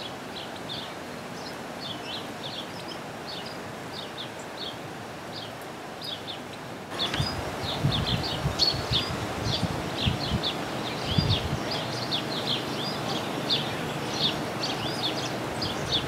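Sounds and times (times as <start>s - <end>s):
songbirds chirping: 0.0s - 16.0s
steady background hiss: 0.0s - 16.0s.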